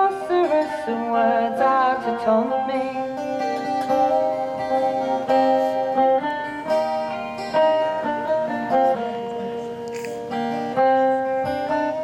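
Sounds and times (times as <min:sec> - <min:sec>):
acoustic guitar strumming: 0:00.0 - 0:12.0
plucked string melody: 0:00.0 - 0:12.0.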